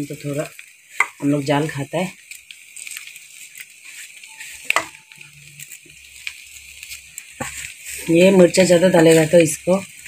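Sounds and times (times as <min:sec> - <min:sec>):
chicken sizzling in a wok: 0:00.0 - 0:10.0.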